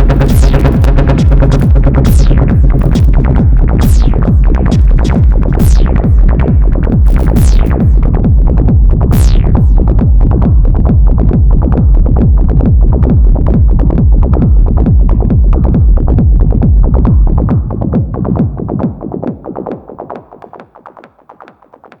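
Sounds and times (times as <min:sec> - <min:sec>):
pulsing sequenced synth line: 0:00.0 - 0:19.3
pounding drum machine beat: 0:00.0 - 0:22.0.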